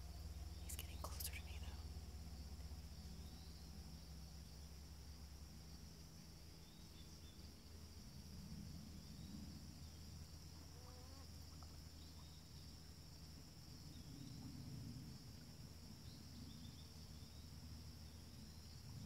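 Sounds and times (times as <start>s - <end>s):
insect chorus chirring: 0.0s - 19.0s
low uneven rumble: 0.0s - 19.0s.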